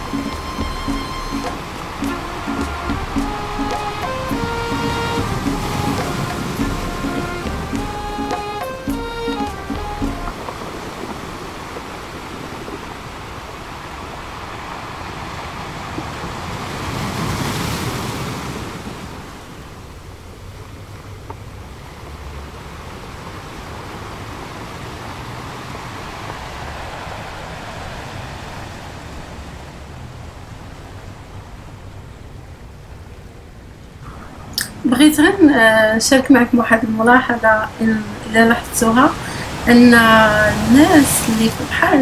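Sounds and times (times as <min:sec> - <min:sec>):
small waves washing onto sand: 0:00.0 - 0:35.9, 0:37.2 - 0:42.0.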